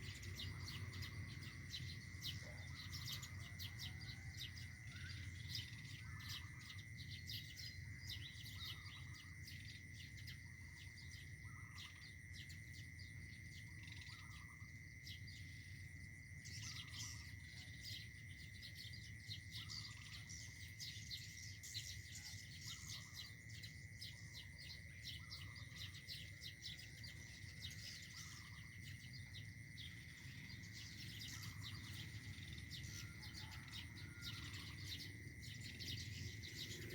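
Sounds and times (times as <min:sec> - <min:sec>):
high insect trill: 0:00.0 - 0:36.9.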